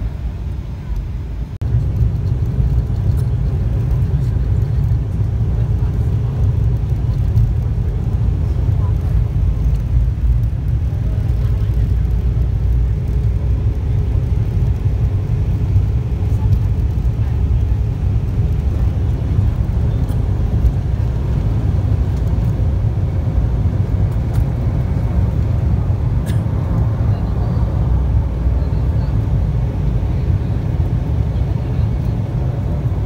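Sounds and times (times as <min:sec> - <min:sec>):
jet engines at takeoff thrust: 0:00.0 - 0:33.0
wheels rumbling on runway: 0:00.0 - 0:33.0.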